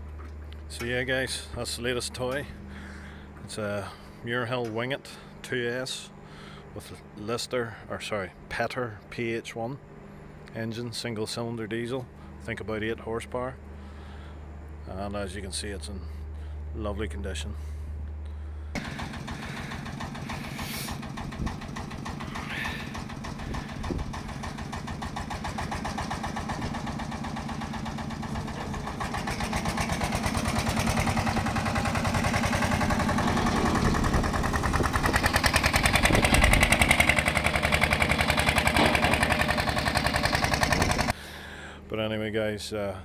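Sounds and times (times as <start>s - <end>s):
diesel engine running: 0.0s - 7.8s, 11.3s - 41.9s.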